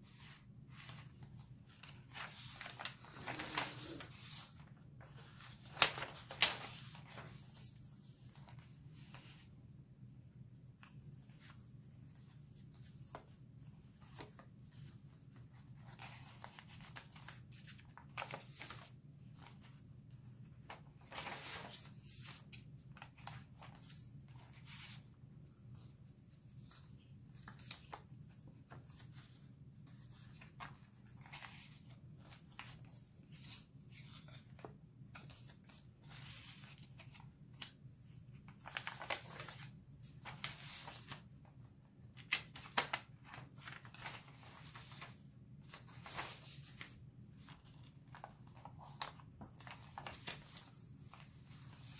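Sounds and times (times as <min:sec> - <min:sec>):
paper pages rustling: 0:00.0 - 0:09.5, 0:10.8 - 0:51.9.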